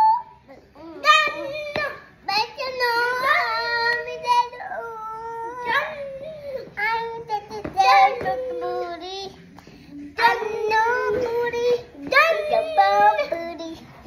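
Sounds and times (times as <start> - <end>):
child singing: 0.0 - 14.0.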